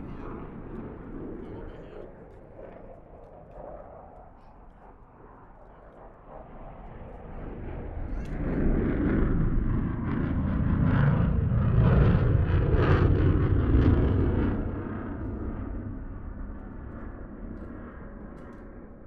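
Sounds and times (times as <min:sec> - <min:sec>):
jet engine rumble with crackle: 0:00.0 - 0:19.0.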